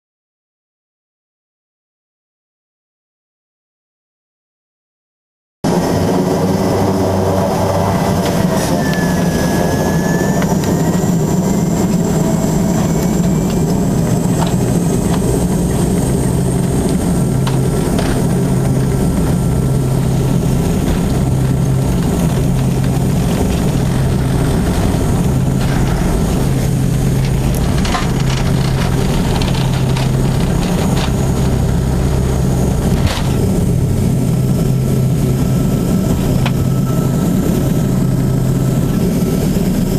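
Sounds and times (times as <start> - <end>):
turboprop engines droning: 5.6 - 39.9.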